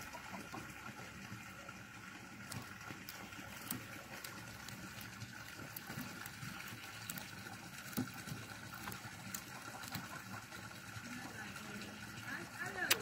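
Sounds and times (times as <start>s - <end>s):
leaves rustling: 0.0s - 13.0s.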